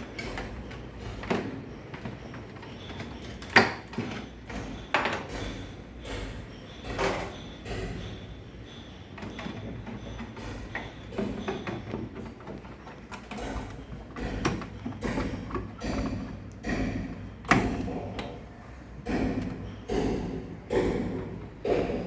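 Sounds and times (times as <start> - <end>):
parts clicking and rattling: 0.0 - 22.0.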